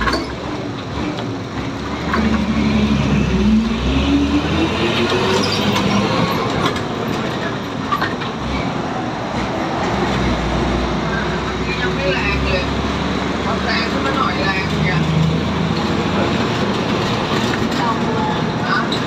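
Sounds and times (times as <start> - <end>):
bus engine accelerating: 0.0 - 19.0.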